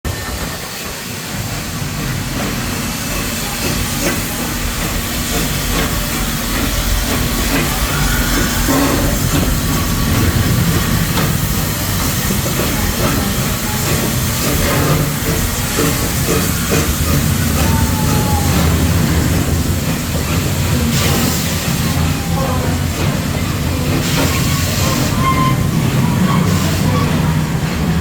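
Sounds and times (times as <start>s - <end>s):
train rumbling: 0.0s - 28.0s
train wheels clicking: 0.1s - 28.0s.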